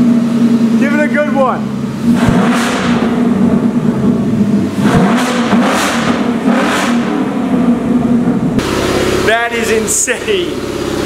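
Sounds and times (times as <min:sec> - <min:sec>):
car engine revving loud: 0:00.0 - 0:11.0.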